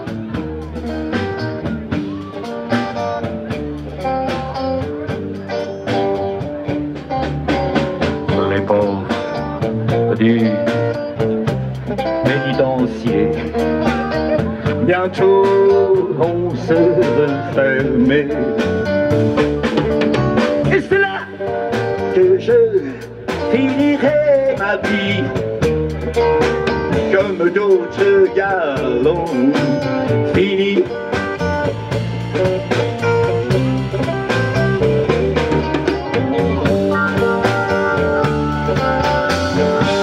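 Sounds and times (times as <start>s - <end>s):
drum kit steady beat: 0.0s - 40.0s
electric guitars: 0.0s - 40.0s
sliding guitar lead line: 0.0s - 40.0s.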